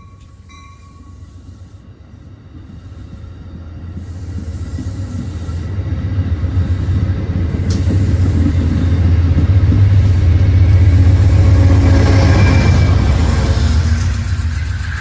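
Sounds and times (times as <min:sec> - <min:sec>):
locomotive engine and rail rumble: 0:00.0 - 0:15.0.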